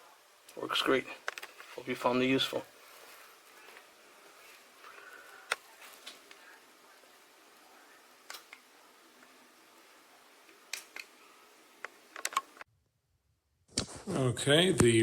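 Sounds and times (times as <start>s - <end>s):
low hiss: 0.0s - 12.7s, 13.7s - 15.0s.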